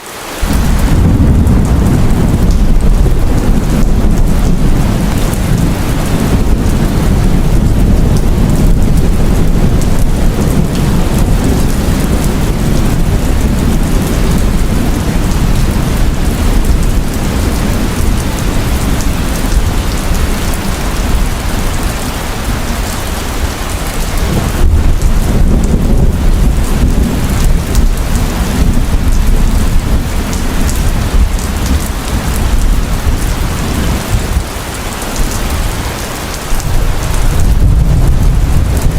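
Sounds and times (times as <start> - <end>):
heavy rain pouring: 0.0 - 38.9
deep rumble of thunder: 0.4 - 34.6, 36.5 - 38.9.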